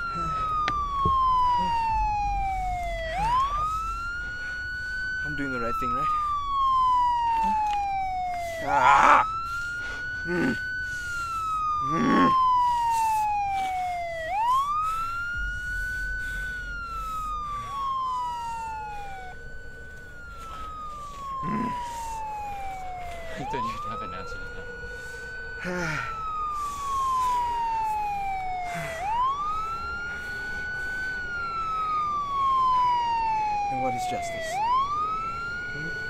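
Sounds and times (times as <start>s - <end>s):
emergency vehicle sirens wailing: 0.0s - 36.0s.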